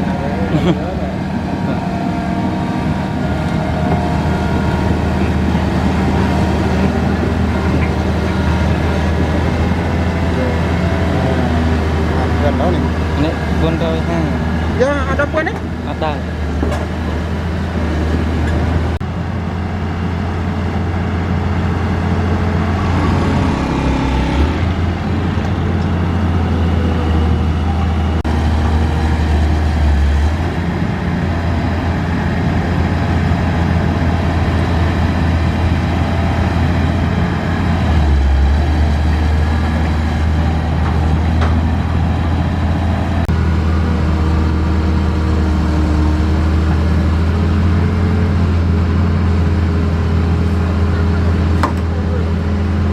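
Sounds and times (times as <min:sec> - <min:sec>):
excavator diesel engine droning: 0:00.0 - 0:52.9.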